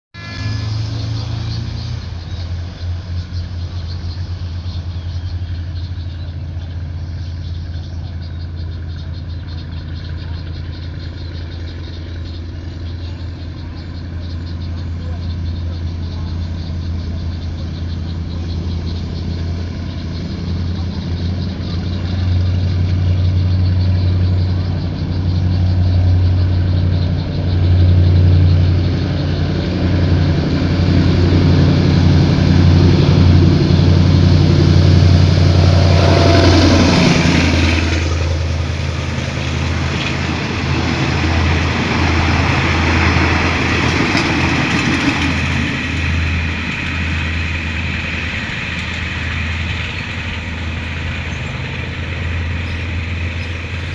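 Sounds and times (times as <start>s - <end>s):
diesel locomotive engine drone: 0.0s - 53.9s
train rolling by: 0.2s - 53.9s.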